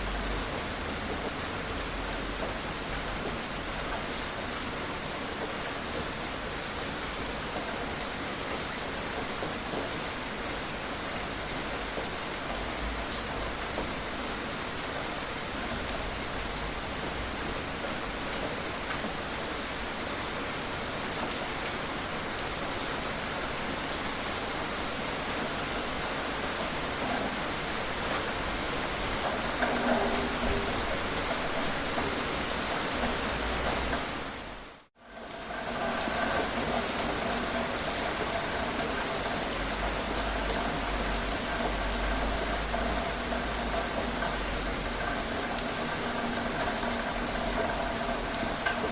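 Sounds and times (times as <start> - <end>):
gentle rain patter: 0.0 - 48.9.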